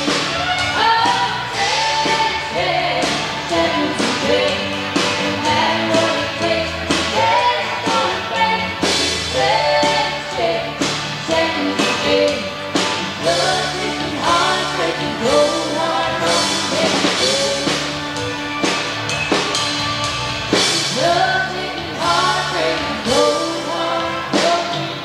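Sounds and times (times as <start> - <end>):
person singing: 0.0 - 18.2, 20.8 - 25.0
drum kit and instruments: 0.0 - 25.0.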